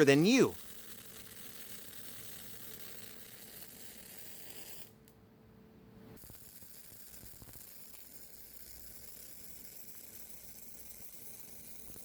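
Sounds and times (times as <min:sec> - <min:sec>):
welding arc crackling: 0:00.0 - 0:05.0, 0:06.2 - 0:12.0.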